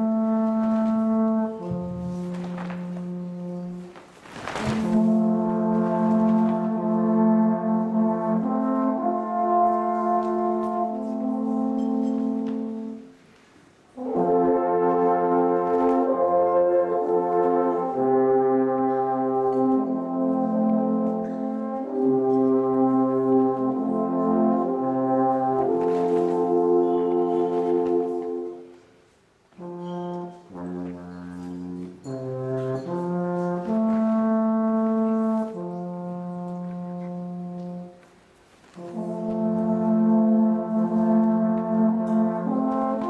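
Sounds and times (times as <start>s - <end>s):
alphorn ensemble playing: 0.0s - 43.0s.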